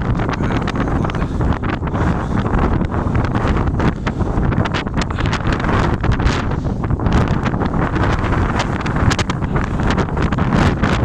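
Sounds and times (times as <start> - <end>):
blizzard wind buffeting microphone: 0.0 - 11.0.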